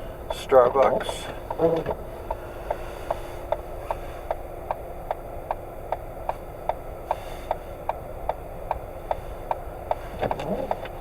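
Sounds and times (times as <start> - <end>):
car cabin hum: 0.0 - 11.0
turn signal ticking: 0.0 - 11.0.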